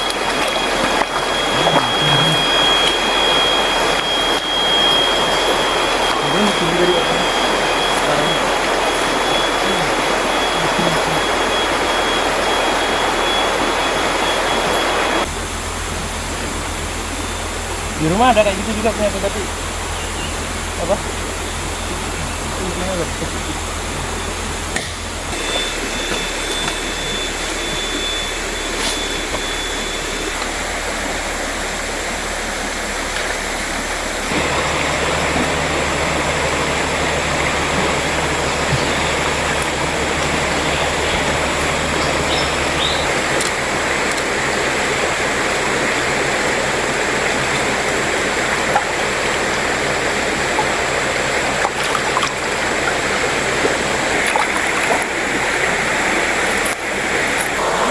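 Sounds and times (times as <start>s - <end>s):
river water rushing: 0.0s - 57.9s.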